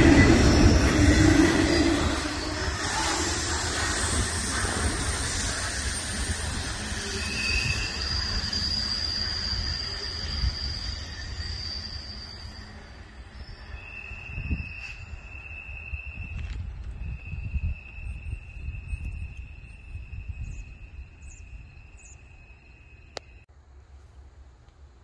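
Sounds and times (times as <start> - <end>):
freight train rumbling: 0.0 - 22.0
high wheel squeal: 0.0 - 23.5.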